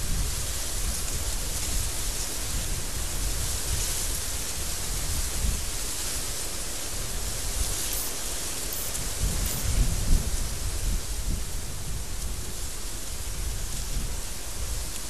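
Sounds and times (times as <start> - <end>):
strong wind blowing: 0.0 - 8.1, 8.7 - 14.9.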